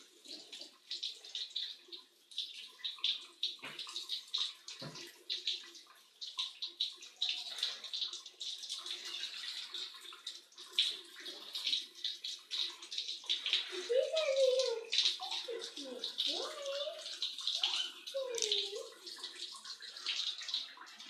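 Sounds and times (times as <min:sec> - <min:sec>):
shower water splashing: 0:00.0 - 0:21.0.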